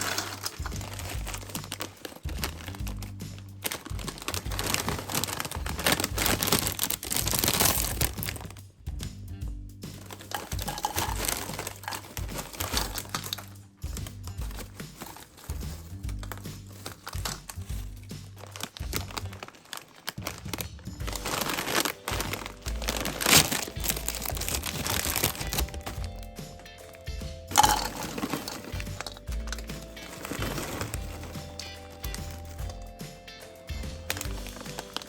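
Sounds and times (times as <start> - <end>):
chip bags crinkling: 0.0 - 8.7, 9.9 - 35.0
light background music: 0.0 - 35.0.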